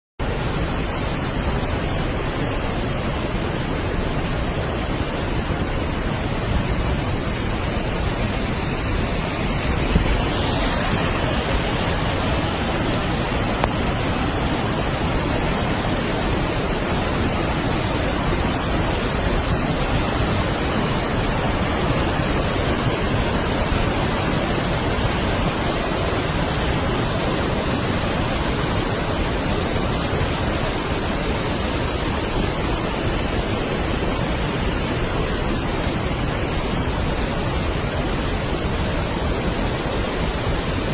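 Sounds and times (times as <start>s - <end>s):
waterfall rushing: 0.2s - 40.9s.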